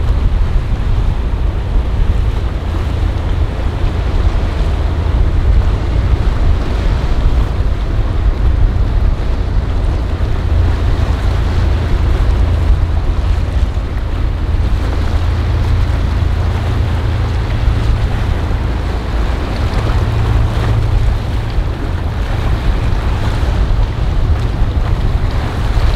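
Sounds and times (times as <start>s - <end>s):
choppy water: 0.0s - 25.9s
motor yacht engines: 0.0s - 25.9s
wind rumble on microphone: 0.0s - 25.9s.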